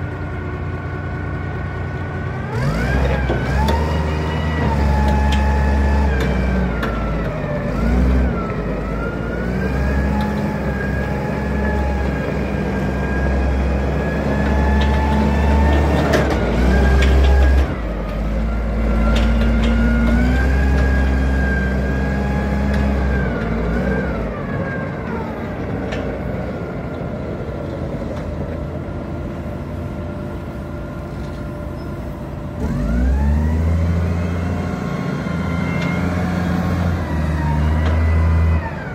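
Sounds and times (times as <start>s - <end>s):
engine whine: 0.0s - 38.9s
forklift engine running: 0.0s - 38.9s.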